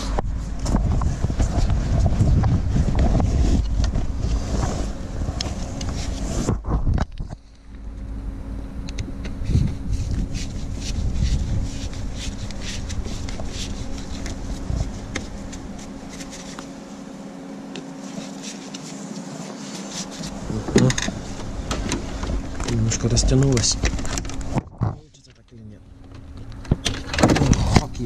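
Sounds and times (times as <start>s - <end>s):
low rumbling handling noise: 0.0s - 28.0s
steady low hum: 0.0s - 28.0s.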